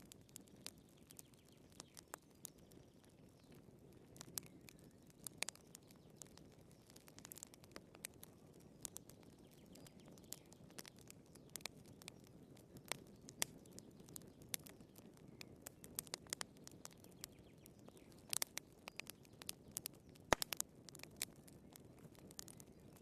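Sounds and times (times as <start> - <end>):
firewood crackling and popping: 0.0 - 23.0.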